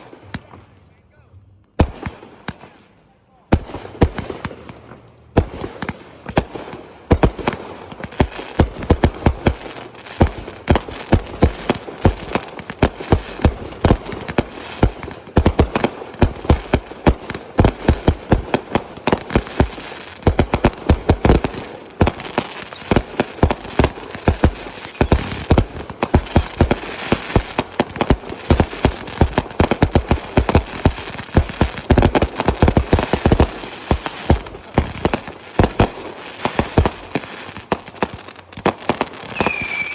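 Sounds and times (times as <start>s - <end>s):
fireworks bangs: 1.8s - 2.8s, 3.5s - 39.9s
loud fireworks booms: 1.8s - 2.8s, 3.5s - 39.9s
fireworks crackling hiss: 3.5s - 39.9s.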